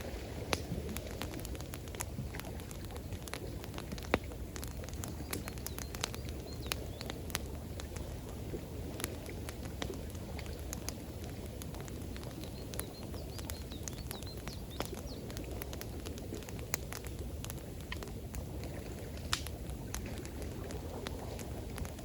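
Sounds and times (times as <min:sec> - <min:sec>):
campfire crackling and popping: 0:00.0 - 0:22.0
running water rushing: 0:00.0 - 0:22.0.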